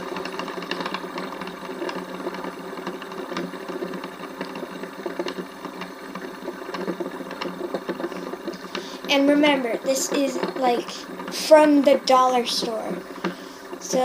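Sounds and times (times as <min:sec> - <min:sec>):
fidget spinner whirring: 0:00.0 - 0:14.0.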